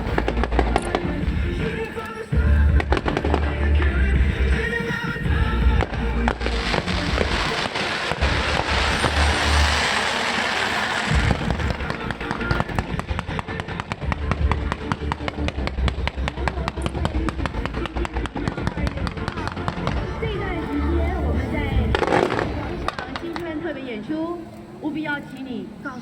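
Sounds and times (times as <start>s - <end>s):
loud music with heavy bass: 0.0s - 23.0s
fireworks crackling and popping: 0.0s - 23.8s.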